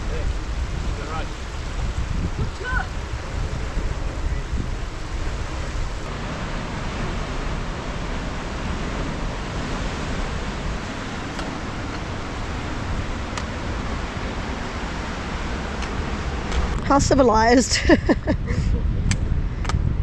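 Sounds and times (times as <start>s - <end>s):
surf washing on rocky shore: 0.0s - 20.0s
wind rumble on microphone: 0.0s - 20.0s.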